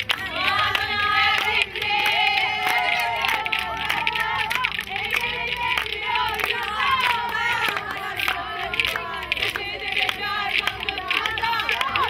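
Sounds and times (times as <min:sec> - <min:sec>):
women calling and singing: 0:00.0 - 0:12.0.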